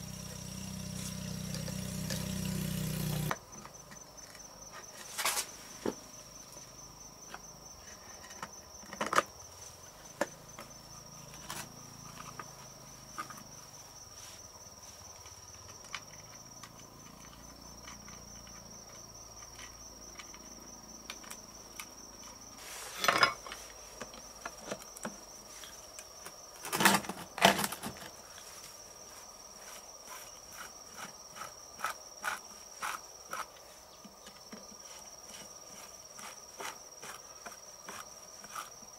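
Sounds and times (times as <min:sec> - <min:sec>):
high-pitched insect trill: 0:00.0 - 0:38.9.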